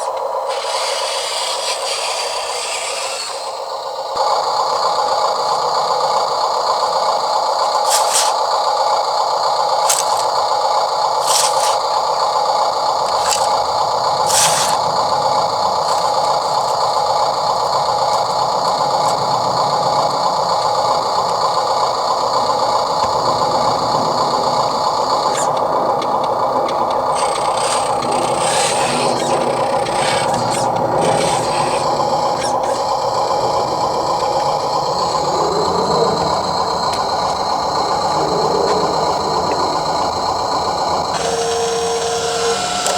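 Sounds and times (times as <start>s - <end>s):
toy truck motor whining: 0.0s - 42.9s.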